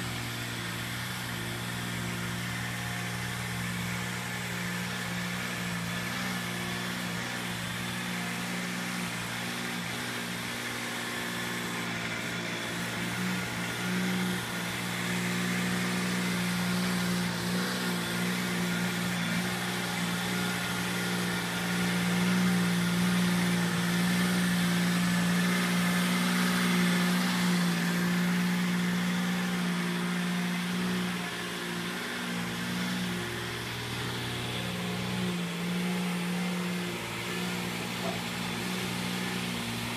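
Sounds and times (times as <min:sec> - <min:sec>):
rotavator churning litter: 0:00.0 - 0:39.9
tractor engine running: 0:00.0 - 0:39.9.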